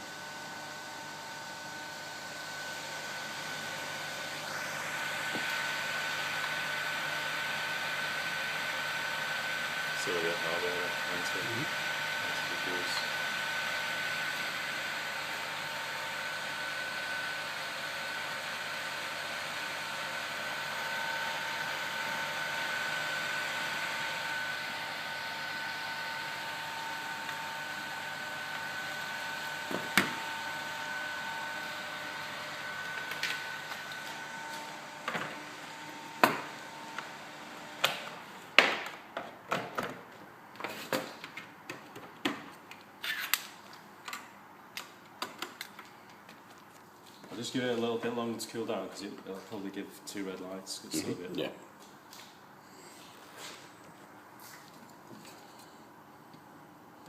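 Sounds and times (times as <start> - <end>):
cooling fan whine: 0.0 - 39.2, 43.3 - 57.0.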